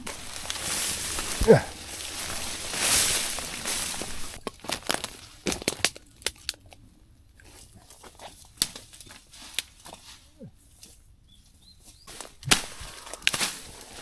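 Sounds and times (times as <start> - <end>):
vegetation rustling: 0.0 - 6.5, 7.4 - 14.0
twigs snapping and crunching: 0.0 - 11.0, 11.6 - 14.0.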